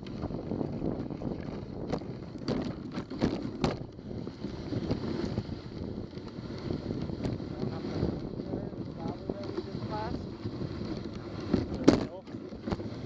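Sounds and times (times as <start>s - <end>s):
sled knocks and clicks: 0.0s - 13.0s
sled runners scraping over snow: 0.0s - 13.0s
wind on the microphone: 0.0s - 13.0s.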